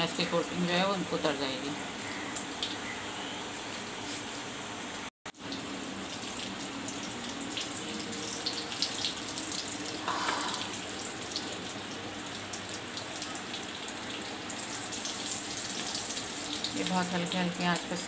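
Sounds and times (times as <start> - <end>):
cutlets sizzling in oil: 0.6 - 18.0.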